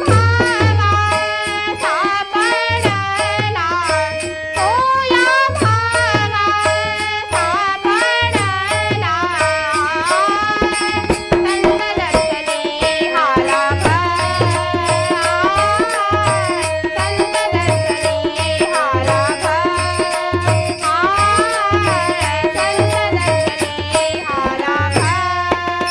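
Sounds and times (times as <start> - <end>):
ornamented melody line: 0.0 - 25.2
hand drums: 0.0 - 25.9.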